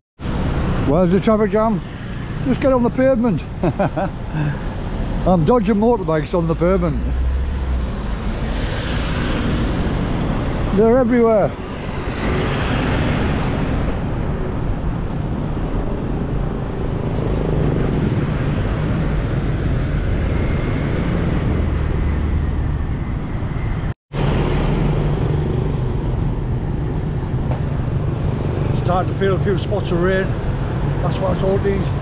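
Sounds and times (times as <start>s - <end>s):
engine rumble: 0.3s - 32.0s.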